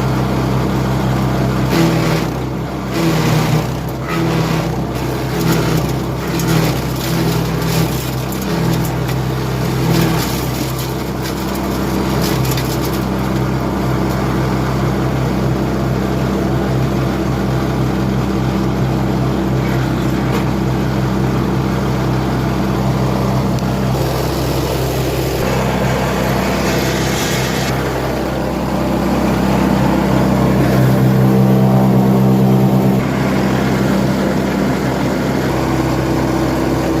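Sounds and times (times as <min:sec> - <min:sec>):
wood chipper engine running: 0:00.0 - 0:37.0.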